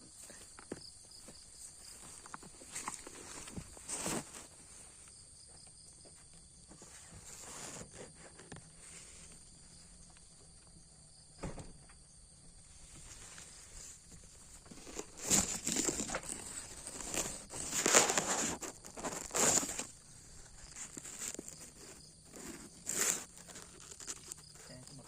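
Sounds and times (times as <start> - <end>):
high insect hum: 0.0 - 25.0.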